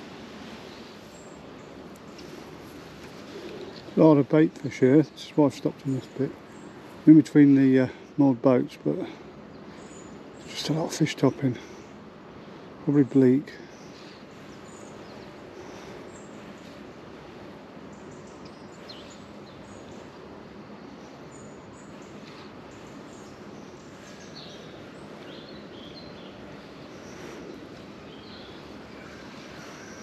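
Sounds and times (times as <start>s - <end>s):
outdoor background noise: 0.0s - 30.0s
small birds chirping: 0.0s - 30.0s.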